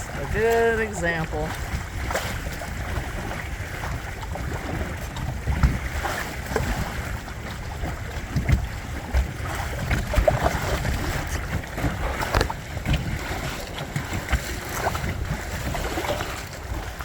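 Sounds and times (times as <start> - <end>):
water washing along hull: 0.0 - 17.0
wind buffeting microphone: 0.0 - 17.0.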